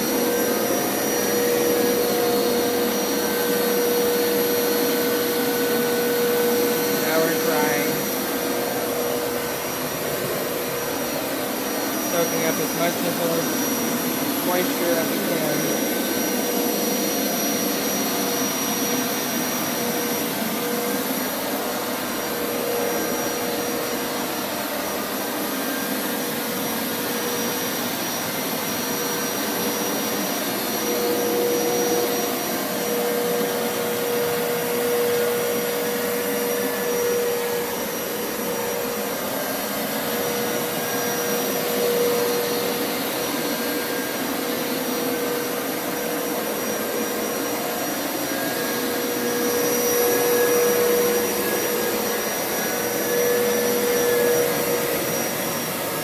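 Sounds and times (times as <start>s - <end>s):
carpet washer motor whining: 0.0s - 56.0s.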